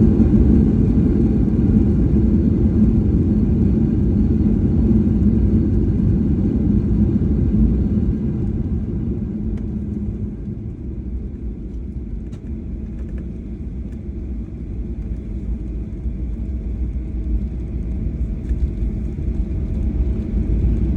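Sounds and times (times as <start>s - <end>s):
aircraft cabin rumble: 0.0s - 20.9s.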